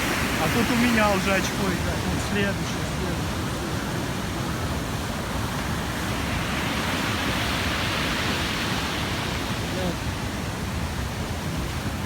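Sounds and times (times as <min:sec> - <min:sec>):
waves crashing on shore: 0:00.0 - 0:12.0.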